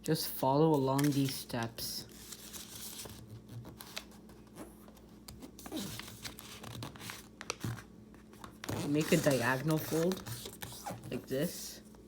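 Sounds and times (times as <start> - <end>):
paper rustling and crinkling: 0.7 - 11.4.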